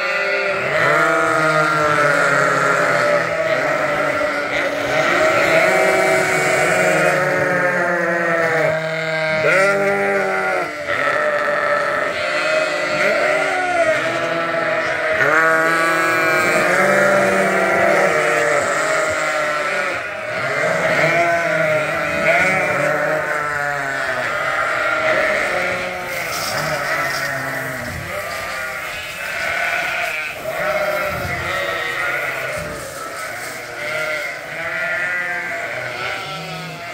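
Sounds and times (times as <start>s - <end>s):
sheep and lambs bleating: 0.0s - 36.9s.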